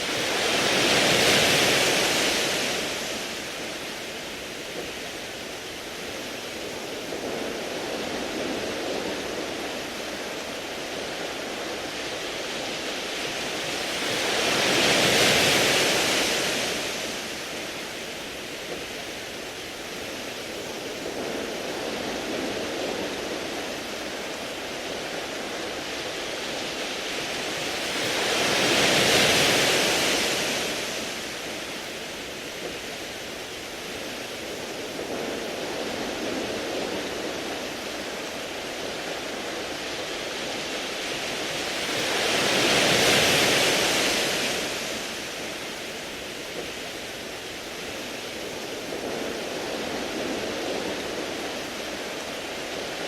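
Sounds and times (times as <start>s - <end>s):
waves washing onto pebble beach: 0.0s - 53.0s.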